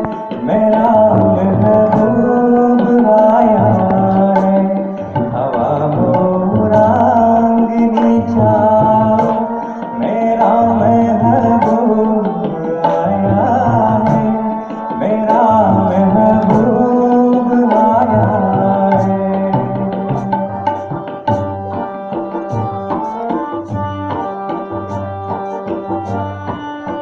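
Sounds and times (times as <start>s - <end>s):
harmonium: 0.0s - 27.0s
man singing into a microphone: 0.0s - 27.0s
tabla drumming: 0.0s - 27.0s.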